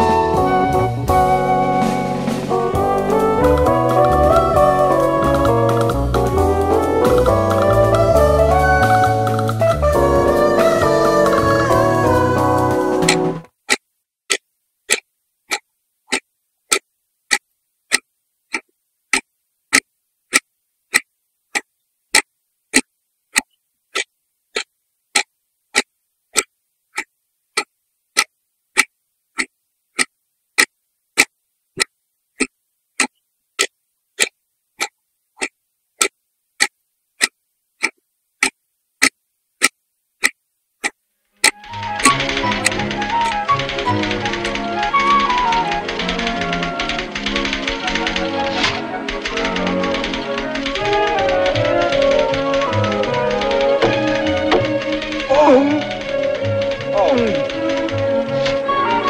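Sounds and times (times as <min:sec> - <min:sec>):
clock ticking: 0:02.5 - 0:59.0.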